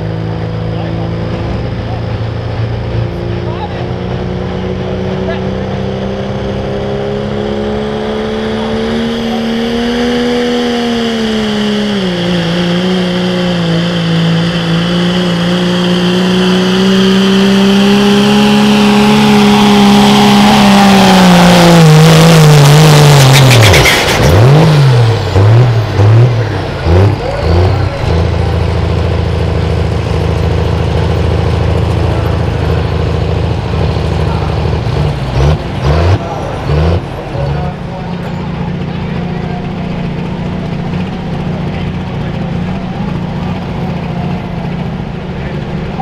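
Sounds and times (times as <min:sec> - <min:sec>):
diesel truck engine at full throttle: 0:00.0 - 0:46.0.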